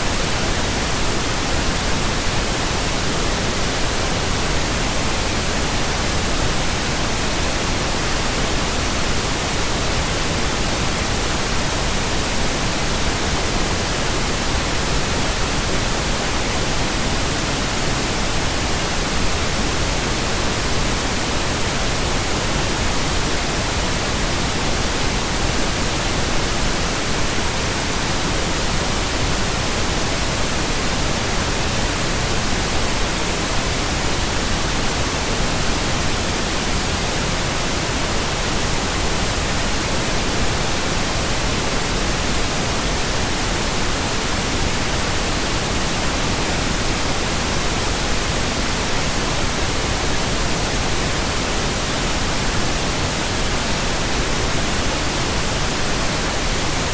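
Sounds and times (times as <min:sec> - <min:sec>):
steady pink noise hiss: 0:00.0 - 0:56.9.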